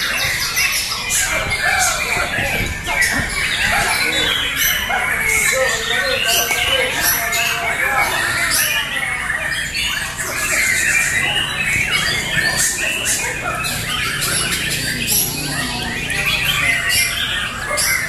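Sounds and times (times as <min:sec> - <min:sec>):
birds singing in chorus: 0:00.0 - 0:18.0.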